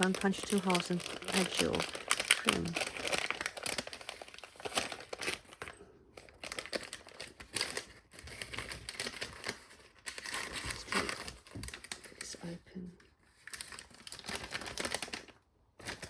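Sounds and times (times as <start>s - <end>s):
packaging crinkling and rustling: 0.0s - 12.6s, 13.2s - 16.0s.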